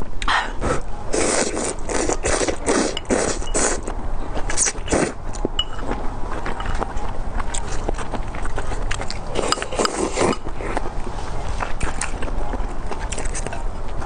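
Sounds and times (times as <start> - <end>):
rasping chewing: 0.2 - 14.0.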